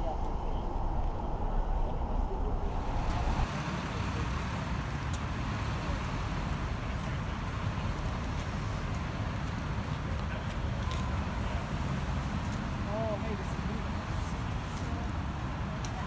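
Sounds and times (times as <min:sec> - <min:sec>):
road traffic noise: 0:02.5 - 0:16.0.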